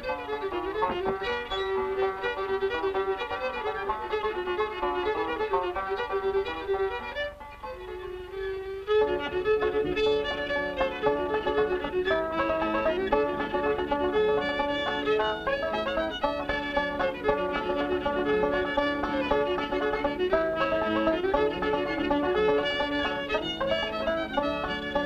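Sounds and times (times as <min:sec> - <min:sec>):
fiddle playing a tune: 0:00.0 - 0:25.0.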